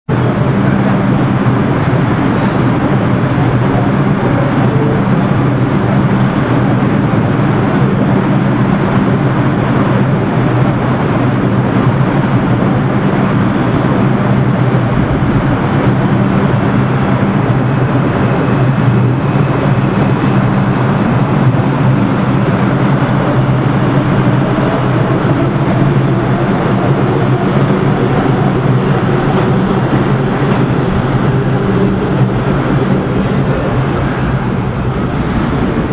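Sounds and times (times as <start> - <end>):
subway train humming: 0.0 - 35.9
train motor whine: 0.1 - 35.9.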